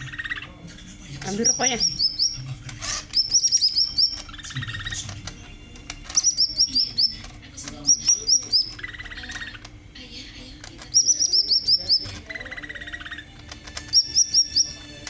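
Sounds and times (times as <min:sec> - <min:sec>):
bird buzzy trills: 0:00.0 - 0:15.0
bird chirping: 0:00.0 - 0:15.0.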